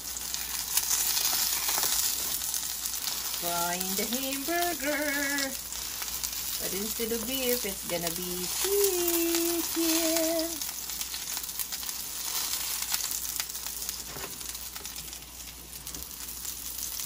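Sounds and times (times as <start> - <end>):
patties sizzling in hot oil: 0.0 - 17.0.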